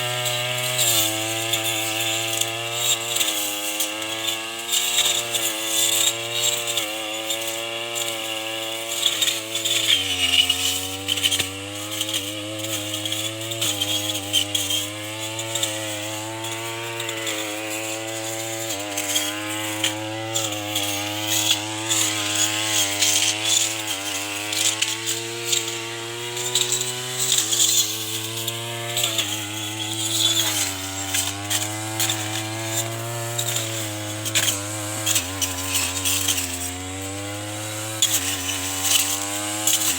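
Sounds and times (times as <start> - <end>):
brush cutter engine running: 0.0 - 39.9
clicks from cut grass: 0.0 - 39.9.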